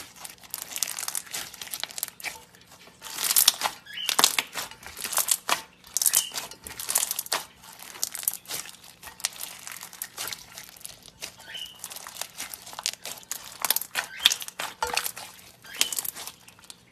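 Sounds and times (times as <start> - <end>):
beaded slime crackling: 0.0 - 16.9.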